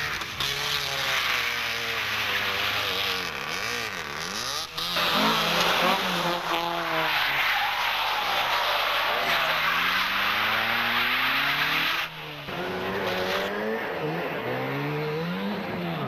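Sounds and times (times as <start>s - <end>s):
rally car at high revs: 0.0s - 16.0s
rally car engine revving: 0.0s - 16.0s.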